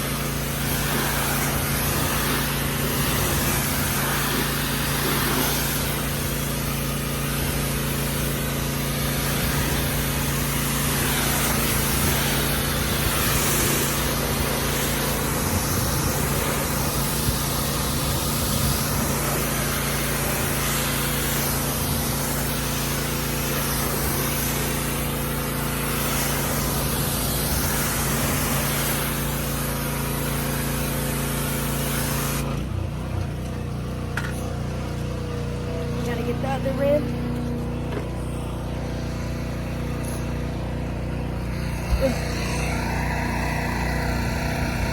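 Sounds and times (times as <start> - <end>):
water spray hissing: 0.0 - 32.6, 38.3 - 44.9
engine running: 0.0 - 44.9.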